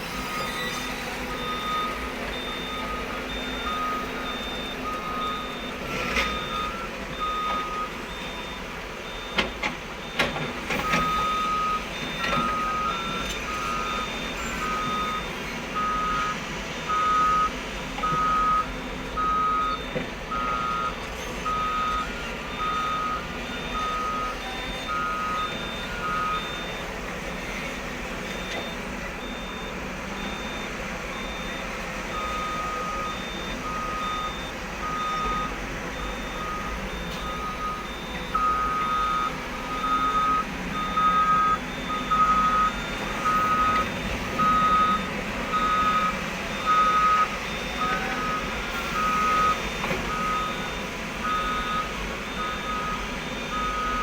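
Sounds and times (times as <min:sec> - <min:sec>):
heavy diesel machinery: 0:00.0 - 0:54.0
reversing alarm beeping: 0:00.0 - 0:54.0.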